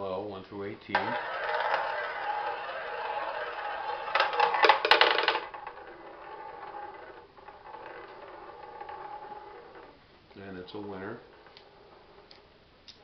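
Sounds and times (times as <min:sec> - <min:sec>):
ball clattering against wheel: 0:00.9 - 0:10.0, 0:10.6 - 0:12.5
ball rolling on roulette wheel: 0:00.9 - 0:12.6.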